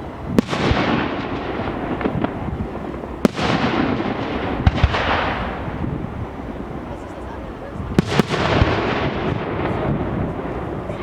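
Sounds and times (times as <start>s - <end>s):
firework bangs with echo: 0.0s - 6.0s, 7.9s - 10.7s
fireworks crackling: 0.0s - 11.0s.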